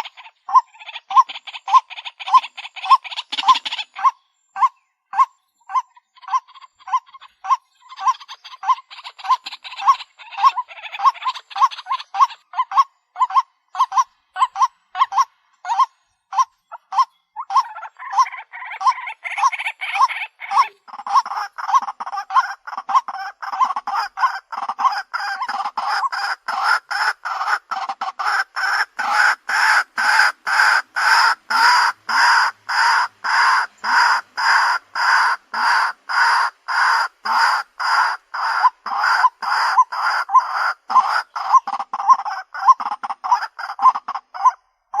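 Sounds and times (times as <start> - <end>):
bird calling repeated notes: 0.0 - 45.0.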